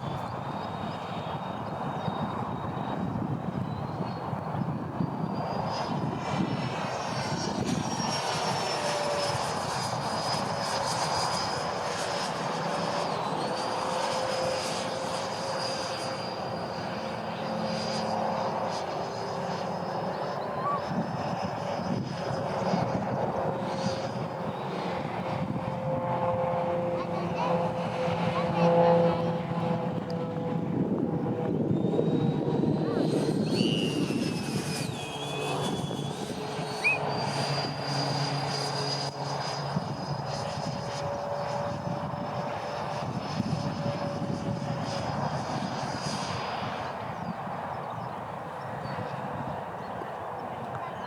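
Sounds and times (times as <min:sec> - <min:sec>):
wind rumble on microphone: 0:00.0 - 0:12.3, 0:20.3 - 0:51.0
model jet fans whining: 0:00.1 - 0:51.0.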